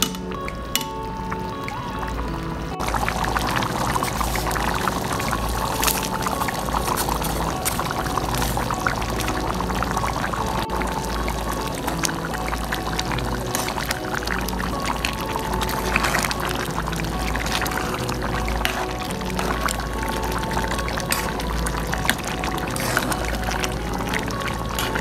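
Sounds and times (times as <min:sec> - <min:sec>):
background music: 0:00.0 - 0:25.0
stew bubbling and crackling: 0:00.0 - 0:25.0.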